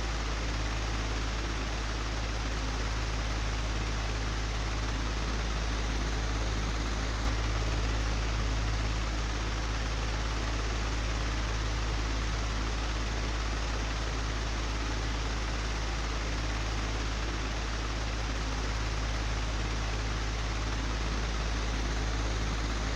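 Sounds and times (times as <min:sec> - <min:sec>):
electric fan running: 0:00.0 - 0:22.9.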